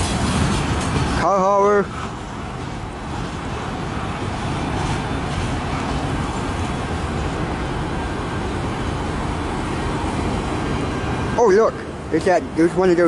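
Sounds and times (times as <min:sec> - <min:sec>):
freight train rolling on rails: 0:00.0 - 0:13.0.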